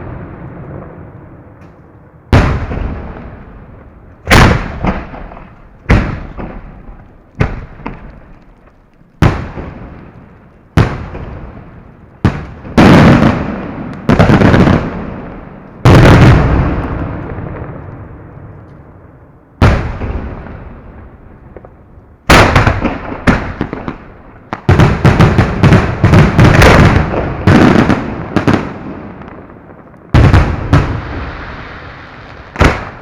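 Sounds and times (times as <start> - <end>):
fireworks booming: 0.0 - 33.0.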